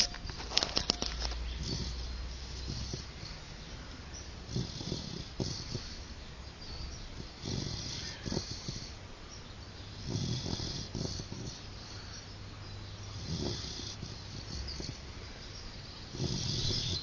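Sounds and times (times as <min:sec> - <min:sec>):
pet snoring: 0:00.8 - 0:09.1, 0:09.7 - 0:12.2, 0:13.0 - 0:17.0.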